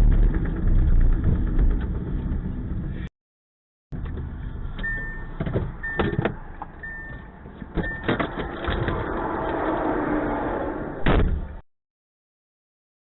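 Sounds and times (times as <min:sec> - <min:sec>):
low vehicle rumble: 0:00.0 - 0:03.1, 0:03.9 - 0:11.6.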